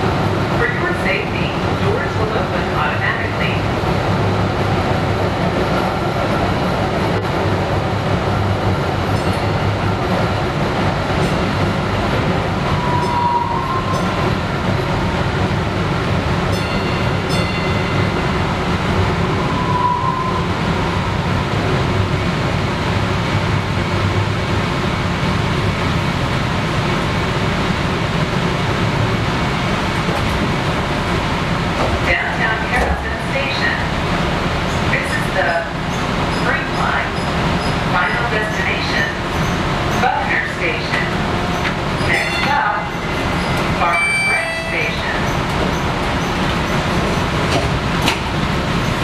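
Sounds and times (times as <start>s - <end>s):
light-rail car rumbling: 0.0s - 49.0s.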